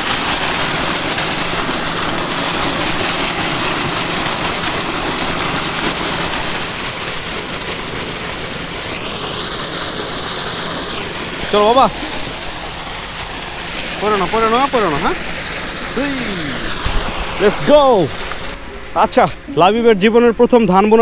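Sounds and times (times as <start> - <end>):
pump low hum: 0.0 - 21.0
water gushing from pump outlet: 0.0 - 21.0.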